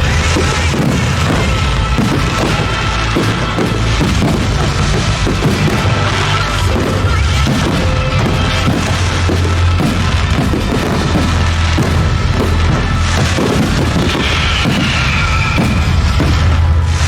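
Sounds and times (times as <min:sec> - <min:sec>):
fireworks bursting: 0:00.0 - 0:17.0
music with heavy bass line: 0:00.0 - 0:17.0.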